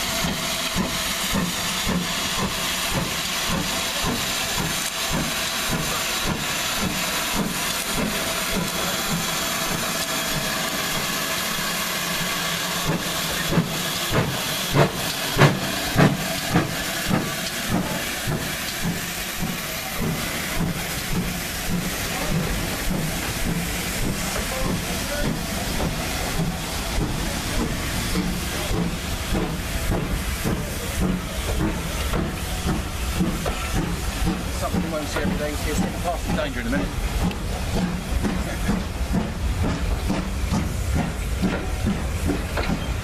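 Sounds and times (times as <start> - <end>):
steam hissing: 0.0 - 43.0
steam locomotive beats: 0.0 - 43.0
train wheel clicks: 0.0 - 43.0.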